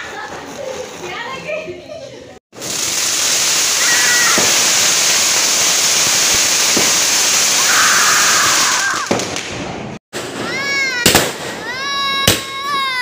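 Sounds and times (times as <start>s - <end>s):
firework fountain hissing: 2.5s - 13.0s
faint firework crackles: 2.6s - 13.0s.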